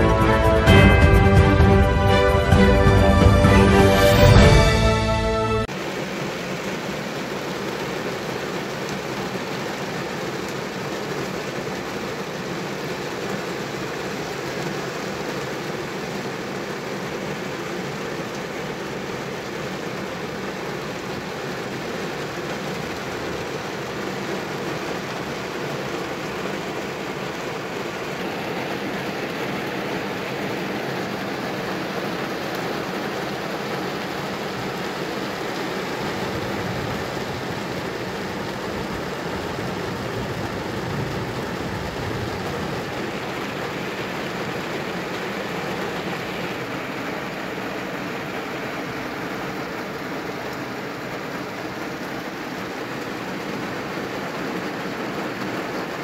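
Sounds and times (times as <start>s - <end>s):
heavy rain on a vehicle: 0.0s - 4.9s, 5.6s - 56.0s
traffic on wet road: 5.7s - 56.0s.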